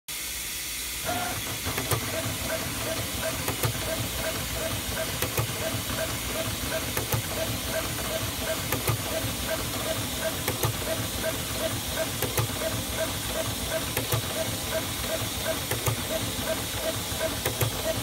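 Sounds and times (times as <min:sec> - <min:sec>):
cutting plotter hiss: 0:00.1 - 0:18.0
plotter motor stepping tone: 0:01.0 - 0:18.0.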